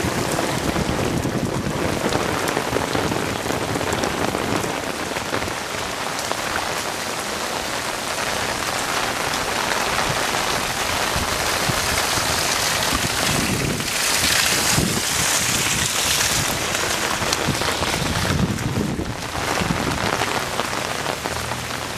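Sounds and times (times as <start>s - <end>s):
heavy rain pattering: 0.0s - 21.9s.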